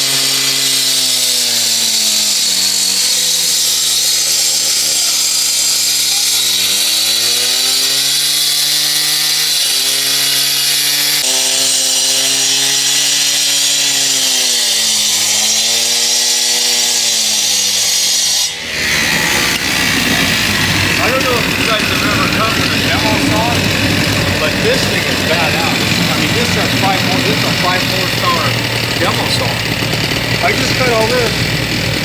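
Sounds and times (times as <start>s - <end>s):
power cutter engine at high throttle: 0.0s - 16.8s, 18.5s - 32.0s
blade grinding concrete hiss: 0.0s - 32.0s.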